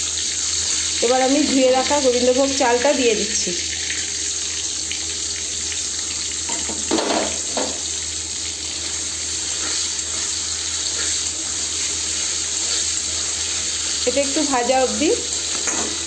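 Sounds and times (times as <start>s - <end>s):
rice sizzling in hot oil: 0.0s - 16.0s.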